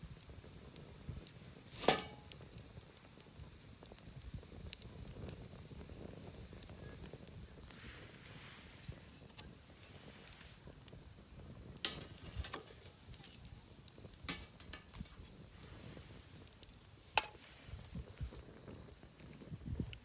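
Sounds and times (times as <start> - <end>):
campfire crackling and popping: 0.0 - 20.0
hiss of flame: 0.0 - 20.0.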